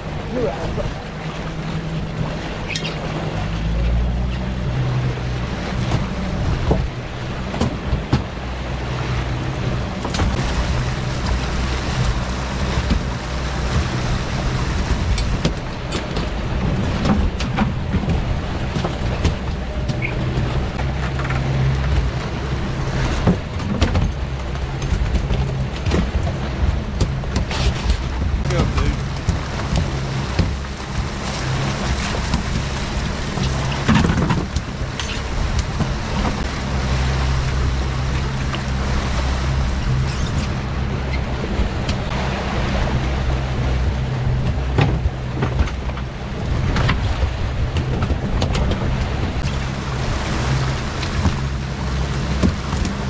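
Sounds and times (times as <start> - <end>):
outboard motor running: 0.0 - 53.0
wind and water wash: 0.0 - 53.0.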